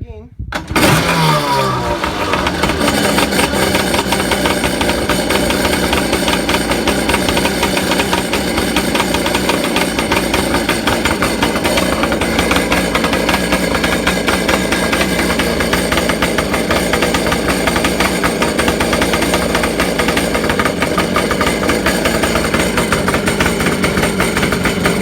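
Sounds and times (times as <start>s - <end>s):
jet ski engine running: 0.5s - 25.0s.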